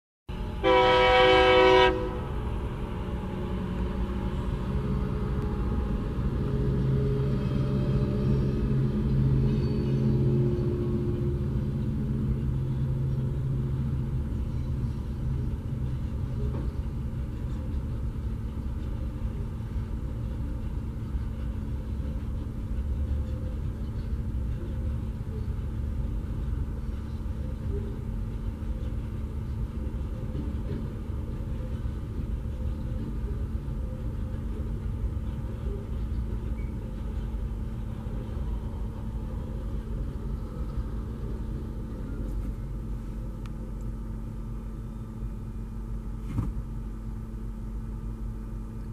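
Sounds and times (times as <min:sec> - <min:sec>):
diesel locomotive engines droning: 0:00.3 - 0:48.9
wagons rumbling on rails: 0:00.3 - 0:48.9.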